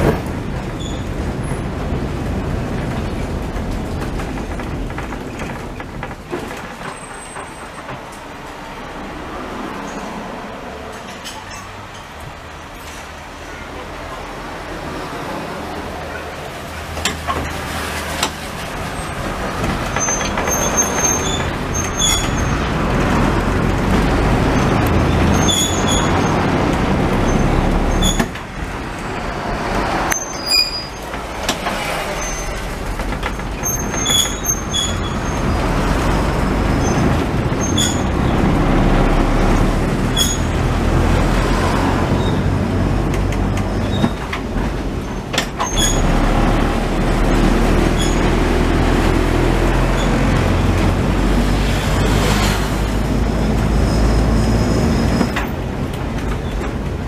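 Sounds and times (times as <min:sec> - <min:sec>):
wheels squeaking and clicking: 0:00.0 - 0:01.7, 0:02.8 - 0:14.3, 0:16.1 - 0:57.0
tram motors and wheels rumbling: 0:00.0 - 0:57.0.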